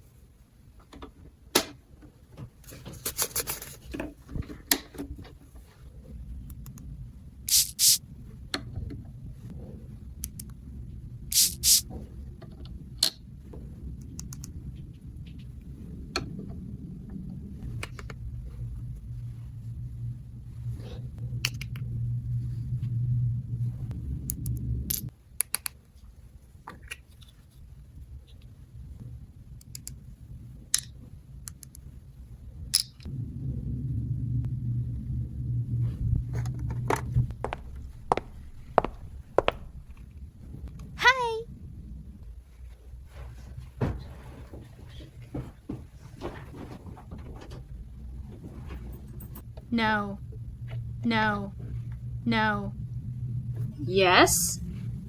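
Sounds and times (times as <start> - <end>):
low hum: 2.1 - 25.2, 27.5 - 55.0.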